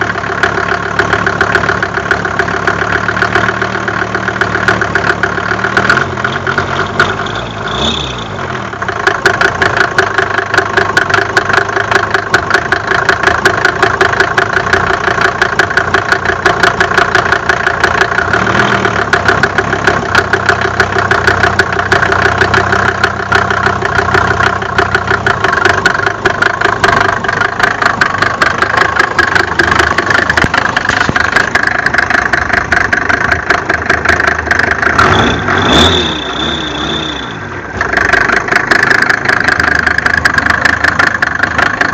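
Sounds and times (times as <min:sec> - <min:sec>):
diesel engine knocking: 0:00.0 - 0:41.9.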